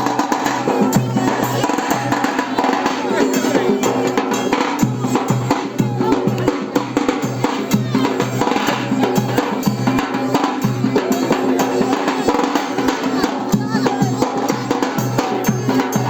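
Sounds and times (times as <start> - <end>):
driving drum beat: 0.0 - 16.0.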